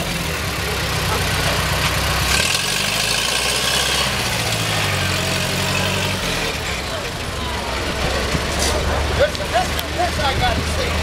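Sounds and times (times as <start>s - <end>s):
car engines idling: 0.0s - 11.0s.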